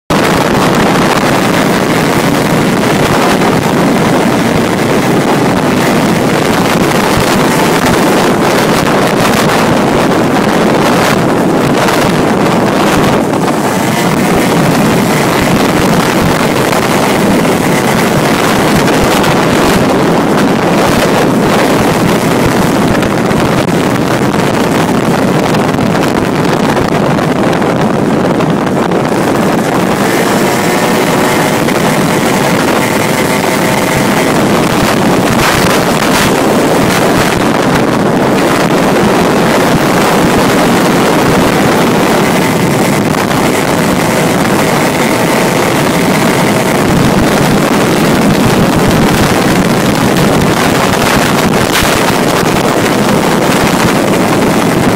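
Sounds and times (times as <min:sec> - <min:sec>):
two-stroke kart engine at speed: 0:00.0 - 0:54.9
wind buffeting microphone: 0:00.1 - 0:54.9.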